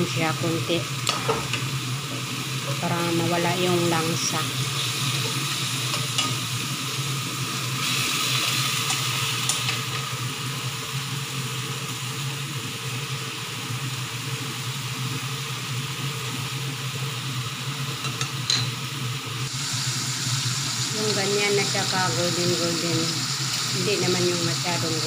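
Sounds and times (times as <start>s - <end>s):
chicken sizzling in a wok: 0.0s - 25.0s.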